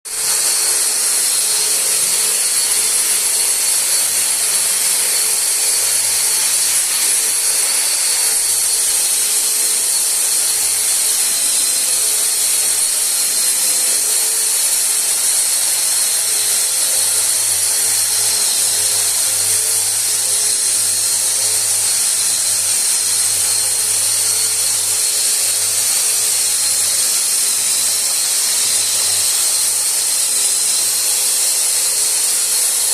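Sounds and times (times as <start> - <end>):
drywall sander whining: 0.1 - 32.9
sanding pad hiss: 0.1 - 32.9.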